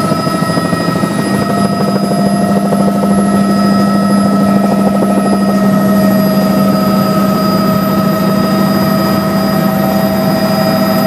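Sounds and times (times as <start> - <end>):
helicopter cabin drone: 0.0 - 11.0
steady whining tones: 0.0 - 11.0.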